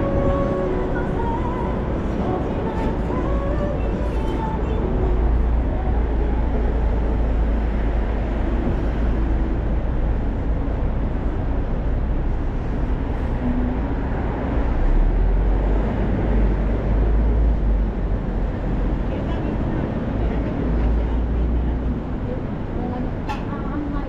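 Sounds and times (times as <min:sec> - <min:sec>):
cars passing: 0:00.0 - 0:24.0
constant low rumble: 0:00.0 - 0:24.0.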